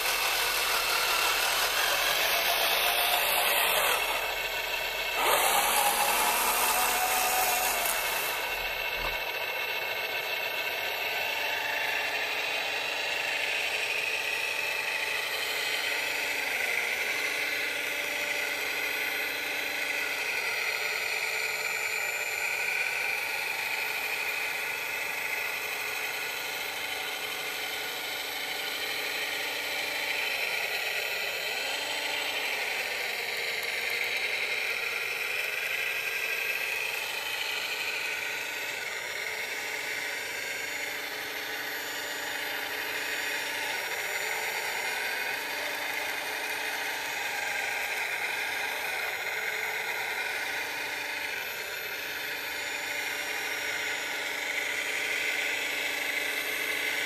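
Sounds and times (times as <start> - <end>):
toy wheel loader motors whirring: 0.0 - 57.0.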